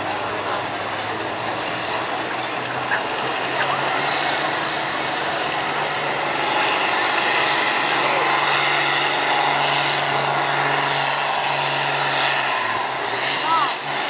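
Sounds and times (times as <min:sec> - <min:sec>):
high-pitched whine: 0:00.0 - 0:14.0
tractor diesel engine under load: 0:00.0 - 0:14.0.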